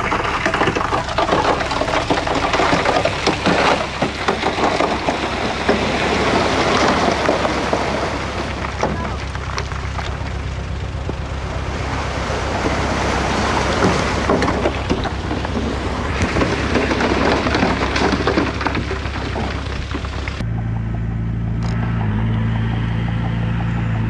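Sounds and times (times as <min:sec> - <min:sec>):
soil and stones crackling: 0:00.0 - 0:20.5
bulldozer diesel engine: 0:00.0 - 0:24.0.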